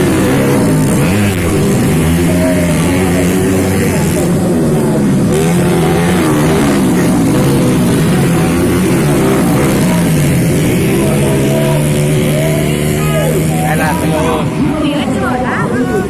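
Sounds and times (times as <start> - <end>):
vehicle engines revving: 0.0 - 16.0.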